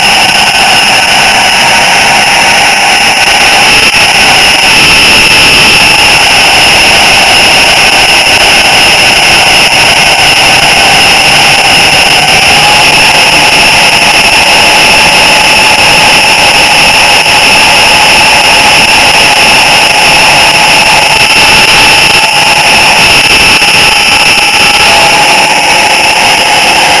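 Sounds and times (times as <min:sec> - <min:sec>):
model train whir and whine: 0:00.0 - 0:27.0.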